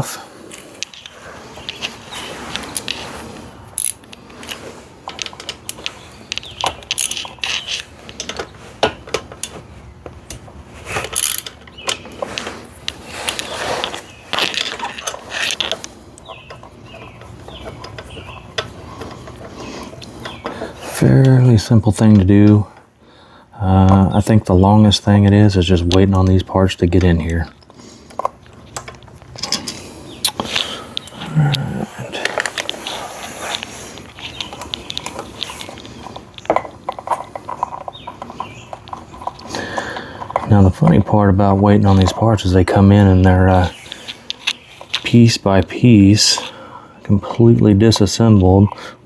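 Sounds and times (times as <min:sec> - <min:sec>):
hand tools and hardware clicking: 0:00.0 - 0:22.9, 0:25.1 - 0:49.0.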